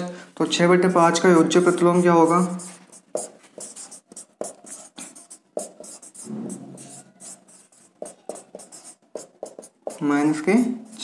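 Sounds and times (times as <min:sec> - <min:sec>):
scratchy handwriting strokes: 0:01.0 - 0:11.0.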